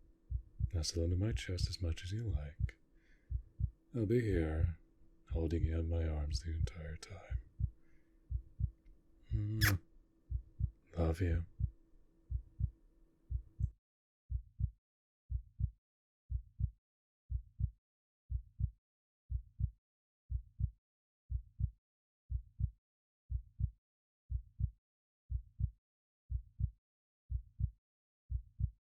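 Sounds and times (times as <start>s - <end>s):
slow heartbeat: 0.3s - 1.4s, 3.3s - 5.7s, 6.3s - 9.7s, 10.3s - 12.7s, 13.3s - 28.8s.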